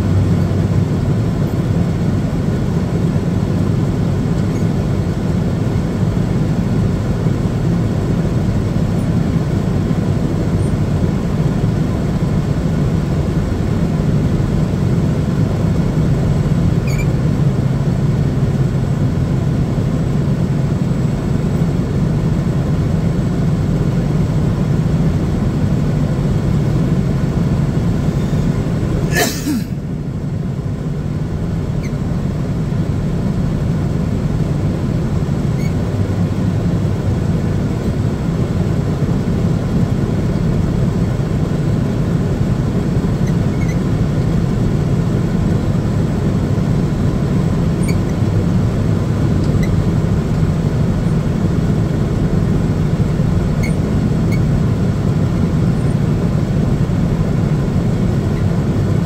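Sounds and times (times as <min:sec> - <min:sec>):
aircraft tug engine running: 0:00.0 - 0:59.0.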